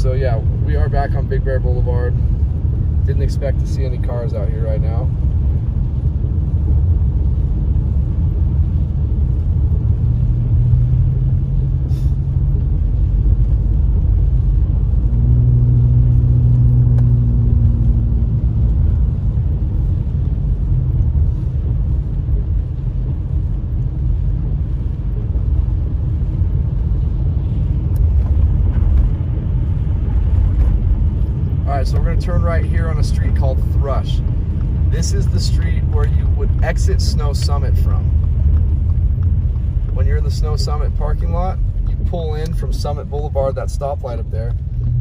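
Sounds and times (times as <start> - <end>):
car driving on wet road: 0.0 - 45.0
low engine hum: 0.0 - 45.0.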